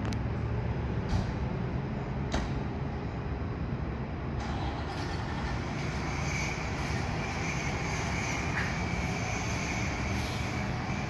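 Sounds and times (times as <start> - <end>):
diesel fire engine idling: 0.0 - 11.0.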